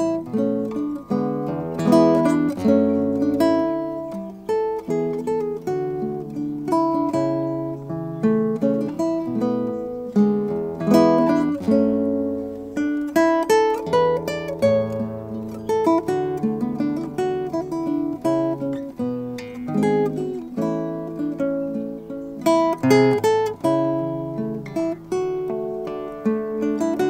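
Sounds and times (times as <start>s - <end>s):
fingerstyle classical guitar: 0.0s - 27.0s.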